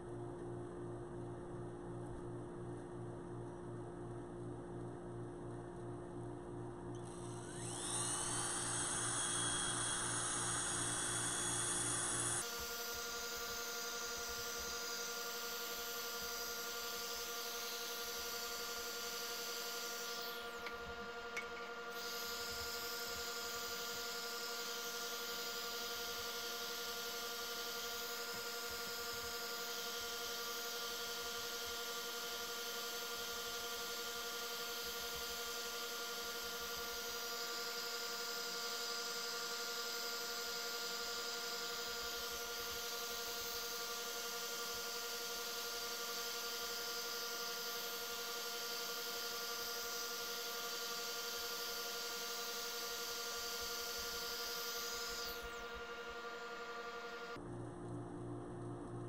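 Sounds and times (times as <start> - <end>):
lathe and sanding pad running: 7.0 - 57.4.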